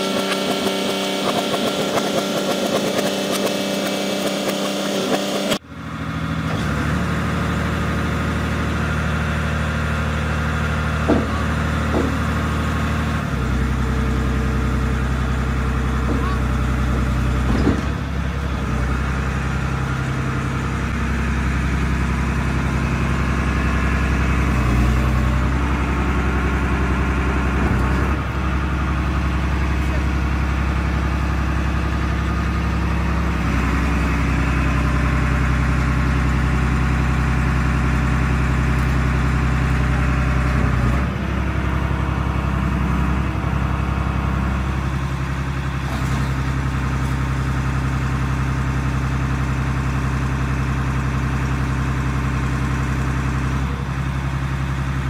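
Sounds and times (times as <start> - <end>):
machine engine running: 0.0 - 55.0.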